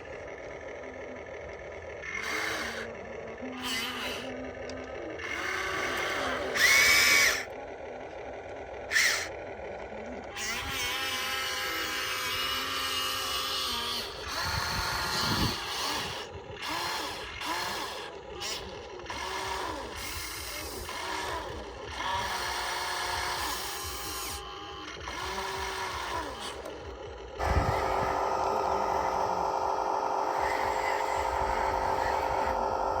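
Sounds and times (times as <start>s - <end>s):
small electric motors whining: 0.0s - 33.0s.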